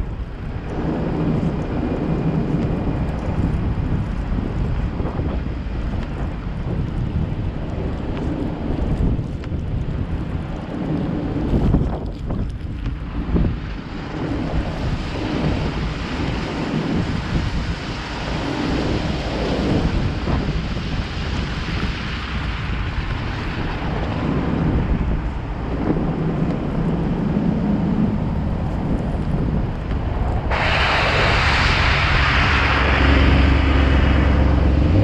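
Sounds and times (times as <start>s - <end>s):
car tyres and engine rumble: 0.0s - 35.0s
wind buffeting microphone: 0.0s - 35.0s.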